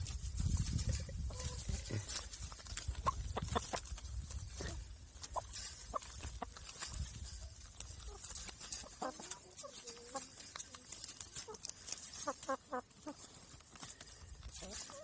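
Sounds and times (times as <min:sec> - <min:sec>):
light patter of small ticks: 0:00.1 - 0:15.0
hens clucking: 0:00.5 - 0:15.0.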